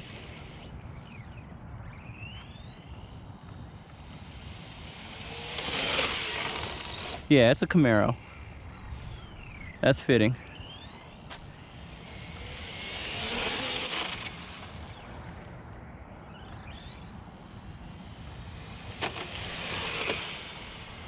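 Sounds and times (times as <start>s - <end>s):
rc car motor whine: 0.0s - 21.0s.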